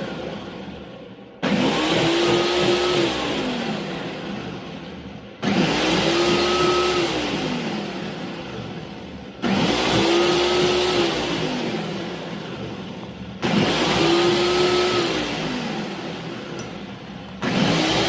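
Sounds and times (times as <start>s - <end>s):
blender motor whining: 1.4s - 4.8s, 5.4s - 18.0s.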